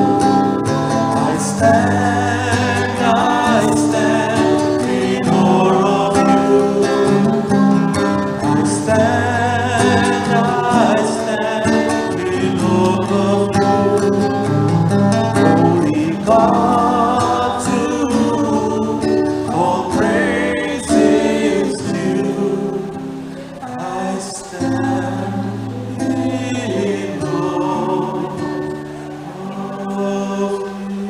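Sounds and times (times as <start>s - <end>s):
instrumental accompaniment with bass: 0.0s - 29.8s
choir singing a hymn: 0.0s - 31.0s.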